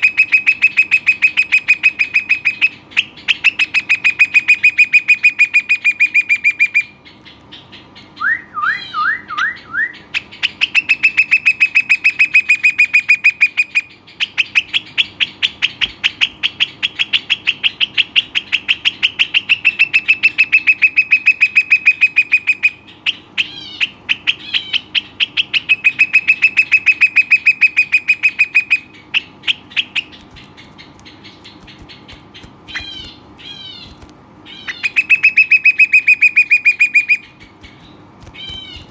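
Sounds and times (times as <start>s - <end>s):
bird singing rapid trills: 0.0s - 38.9s.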